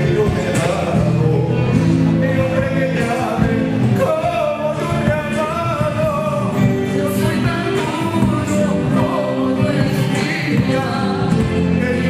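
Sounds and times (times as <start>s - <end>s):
folk band playing dance song: 0.0s - 12.0s
person singing: 0.0s - 12.0s.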